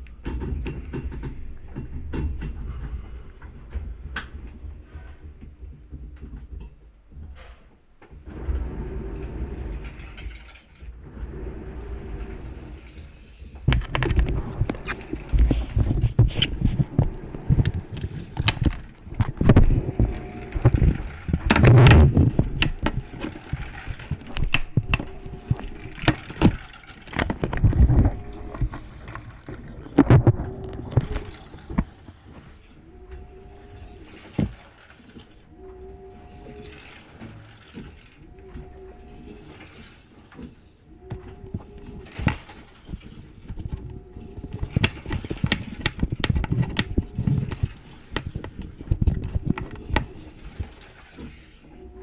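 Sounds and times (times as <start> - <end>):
washing machine rumbling and clunking: 0.0 - 52.0.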